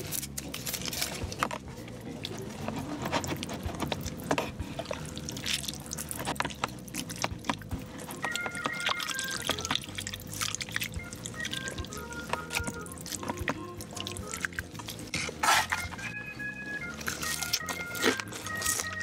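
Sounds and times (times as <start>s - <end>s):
wet chewing: 0.0s - 16.1s, 16.7s - 19.0s
faint background music: 0.0s - 19.0s.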